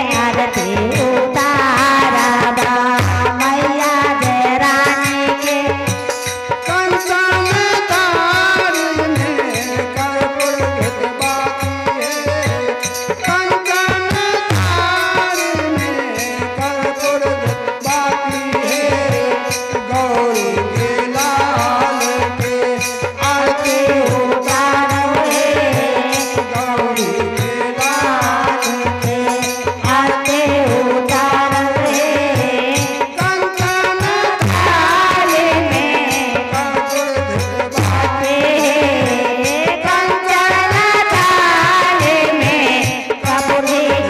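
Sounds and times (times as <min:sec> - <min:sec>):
devotional singing: 0:00.0 - 0:44.0
drums and percussion: 0:00.0 - 0:44.0.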